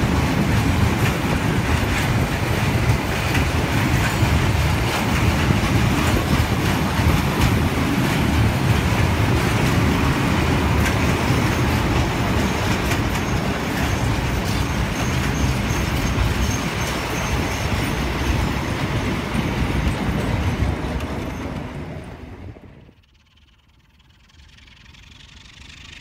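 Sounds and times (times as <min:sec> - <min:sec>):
diesel locomotive passing: 0:00.0 - 0:26.0
freight train wheels rumbling: 0:00.0 - 0:26.0.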